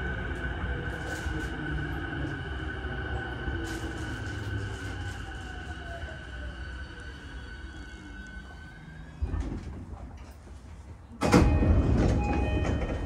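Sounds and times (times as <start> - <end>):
train doors sliding open: 0.3 - 6.1, 7.0 - 13.0.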